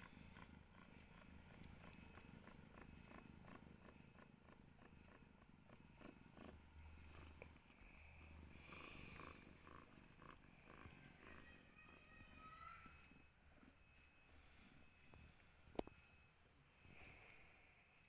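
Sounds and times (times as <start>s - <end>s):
soft regular clicks: 0.0s - 13.9s, 15.0s - 16.3s
faint cat purring: 0.0s - 18.0s.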